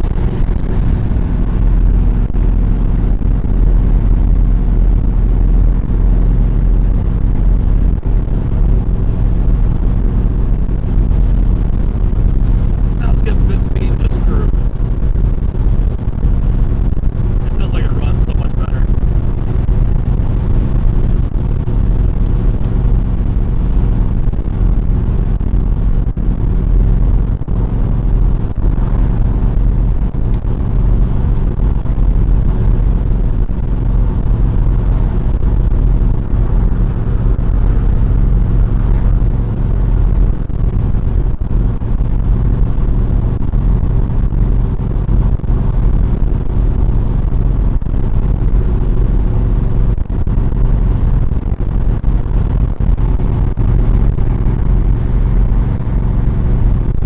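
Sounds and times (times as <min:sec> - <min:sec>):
car engine cruising: 0:00.0 - 0:57.0
road noise: 0:00.0 - 0:57.0.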